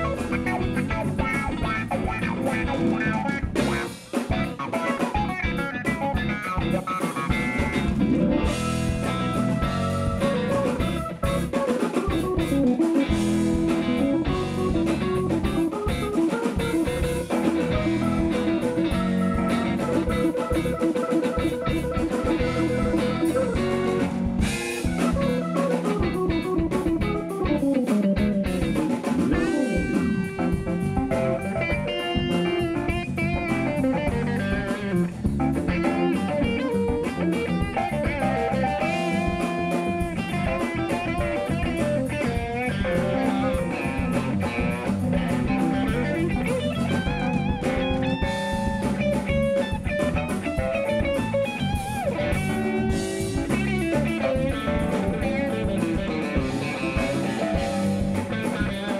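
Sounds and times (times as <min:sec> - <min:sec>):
live band playing: 0:00.0 - 0:58.9.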